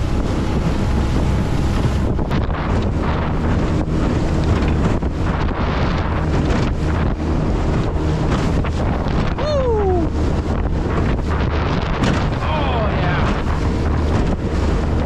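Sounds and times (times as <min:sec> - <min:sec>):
outboard motor running: 0:00.0 - 0:15.0
water rushing: 0:00.0 - 0:15.0
wind buffeting microphone: 0:00.0 - 0:15.0.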